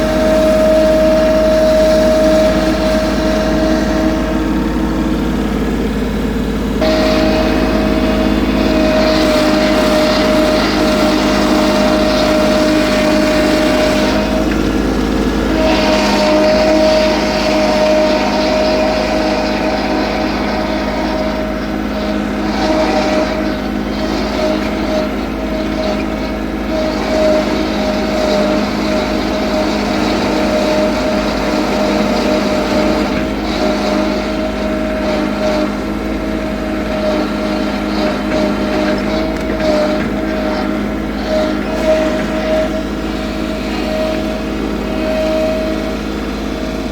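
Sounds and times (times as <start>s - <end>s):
machine humming: 0.0s - 46.9s.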